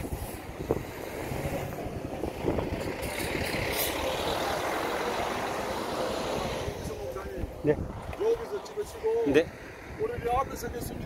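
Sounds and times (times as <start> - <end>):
large vehicle engine rumbling: 0.0 - 11.0.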